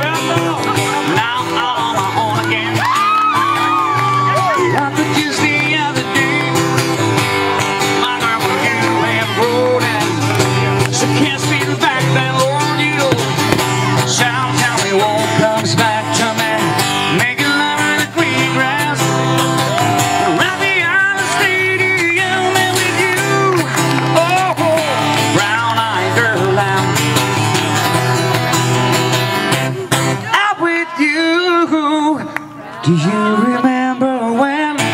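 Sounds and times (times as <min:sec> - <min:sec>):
person singing: 0:00.0 - 0:07.0, 0:07.7 - 0:27.2, 0:29.7 - 0:34.9
acoustic guitar: 0:00.0 - 0:34.9.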